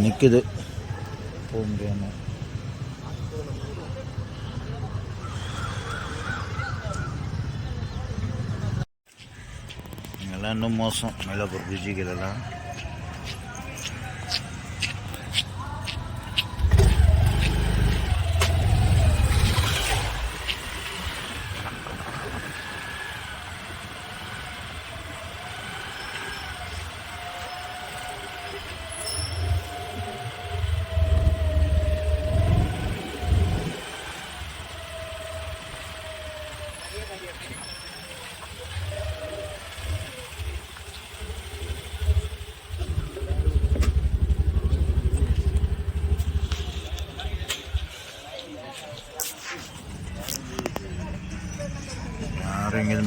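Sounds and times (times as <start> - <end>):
engine rumble: 0.0 - 53.0
road traffic hum: 0.0 - 53.0.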